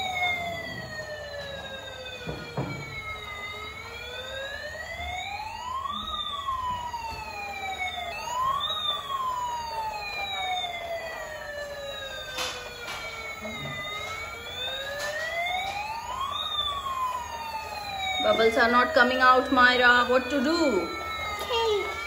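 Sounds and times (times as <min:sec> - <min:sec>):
toy siren wailing: 0:00.0 - 0:22.0.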